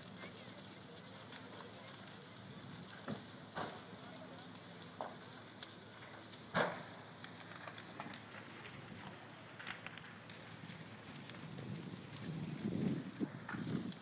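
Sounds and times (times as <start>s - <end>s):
fire burning with hiss: 0.0s - 14.0s
fire pops and crackles: 0.0s - 14.0s.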